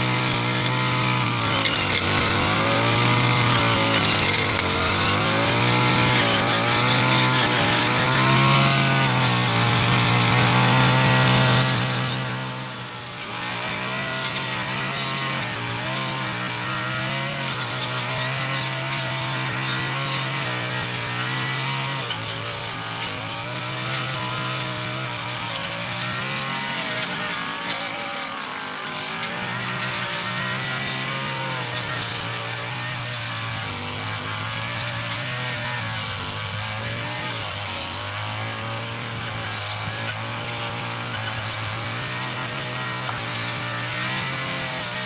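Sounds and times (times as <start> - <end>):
brush cutter engine cutting grass: 0.0 - 45.0.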